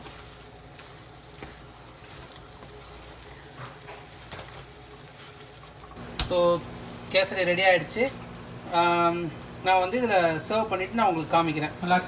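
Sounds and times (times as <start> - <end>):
faint steady sizzle: 0.0 - 12.0.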